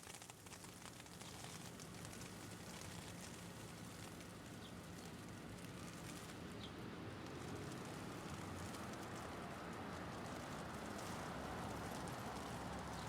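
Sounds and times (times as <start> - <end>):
city traffic rumble: 1.2 - 13.0.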